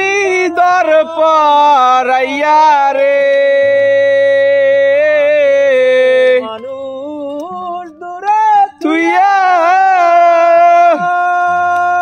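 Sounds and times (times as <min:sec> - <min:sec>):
man singing folk song: 0:00.0 - 0:12.0.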